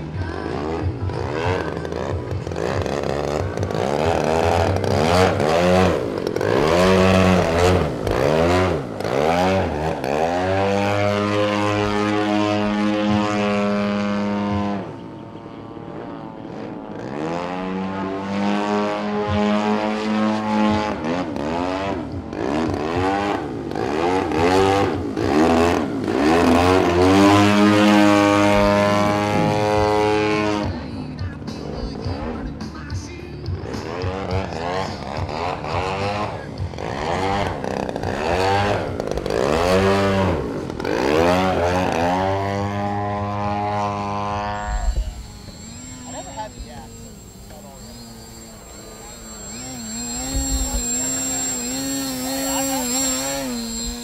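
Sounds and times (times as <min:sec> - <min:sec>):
model airplane propeller engine: 0:00.0 - 0:54.0.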